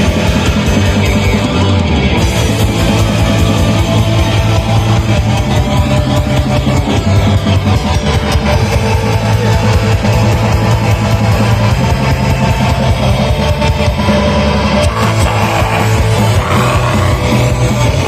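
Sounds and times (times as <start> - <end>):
distorted electric guitars: 0.0 - 18.0
rapid drumming: 0.0 - 18.0.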